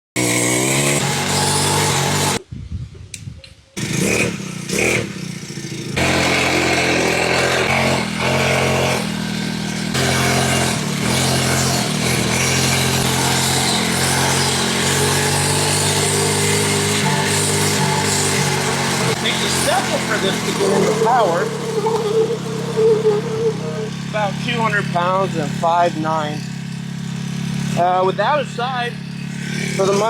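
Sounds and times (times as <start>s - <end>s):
small motorbike engine revving: 0.2s - 2.4s, 3.7s - 30.0s.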